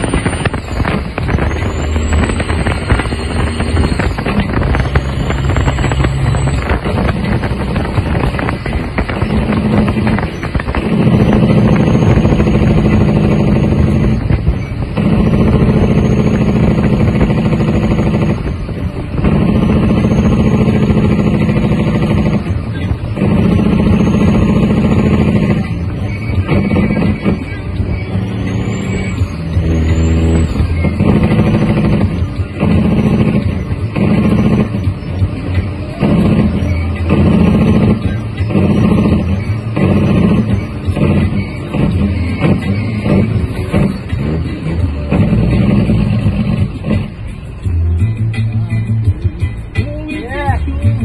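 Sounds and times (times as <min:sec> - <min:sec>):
truck diesel engine pulling: 0:00.0 - 0:51.0.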